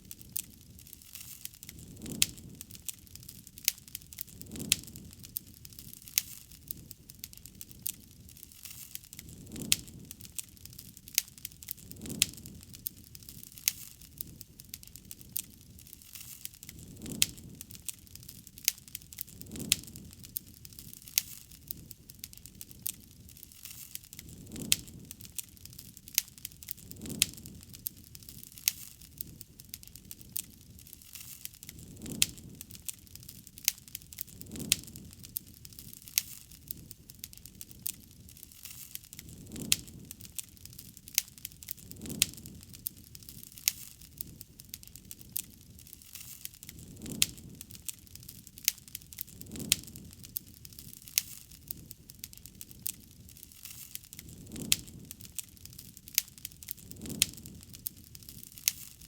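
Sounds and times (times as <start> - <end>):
low rush of flame: 0.0 - 59.0
wood fire crackling: 0.0 - 59.0.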